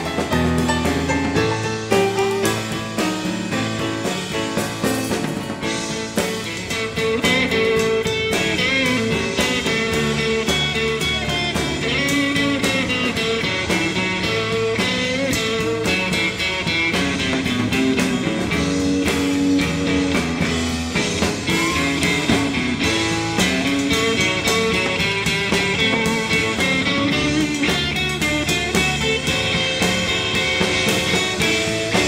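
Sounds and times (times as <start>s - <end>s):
blues rock band playing: 0.0s - 32.0s
electric guitar: 0.0s - 32.0s.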